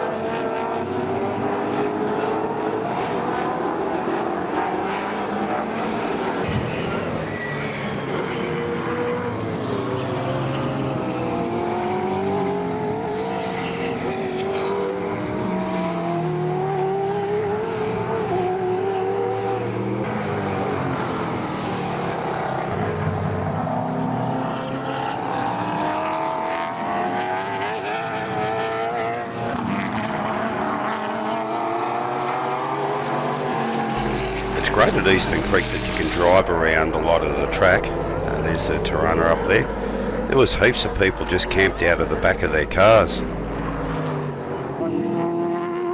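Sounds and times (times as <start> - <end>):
race car engines accelerating: 0.0 - 45.9.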